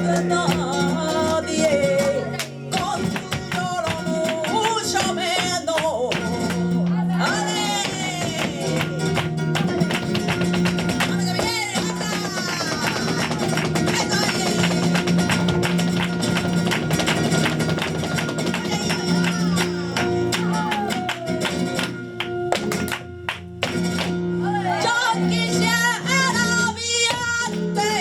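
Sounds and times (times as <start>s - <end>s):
flamenco guitar: 0.0s - 28.0s.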